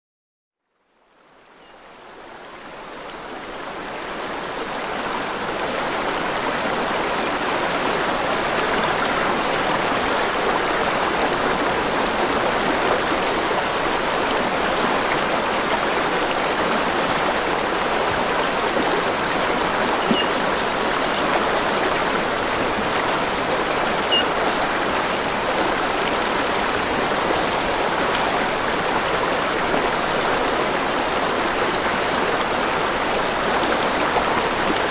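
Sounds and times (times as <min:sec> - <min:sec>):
flowing stream water: 0:00.8 - 0:34.9.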